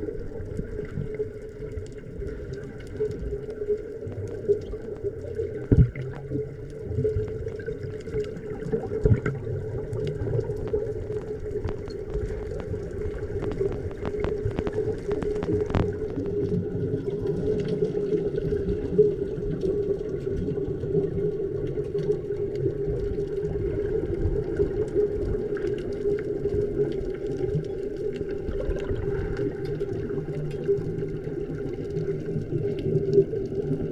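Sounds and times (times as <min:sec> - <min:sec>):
muffled underwater rumbling wash: 0:00.0 - 0:33.9
sharp clicks and crackles: 0:00.0 - 0:33.9.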